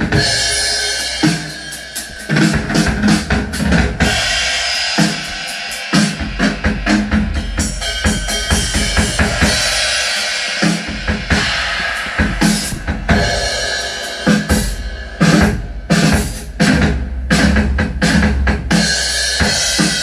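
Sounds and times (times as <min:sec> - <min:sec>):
drum-heavy music with deep bass: 0:00.0 - 0:20.0.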